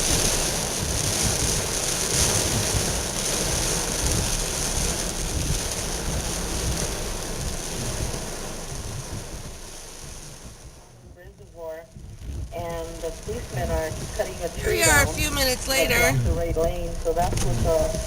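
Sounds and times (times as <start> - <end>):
heavy rain on a car: 0.0 - 18.0
low rumble from car: 0.0 - 18.0.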